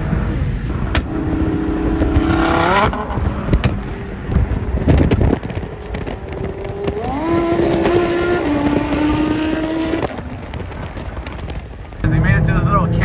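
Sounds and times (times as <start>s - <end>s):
car engine at highway speed: 0.0s - 13.0s
road and wind noise: 0.0s - 13.0s.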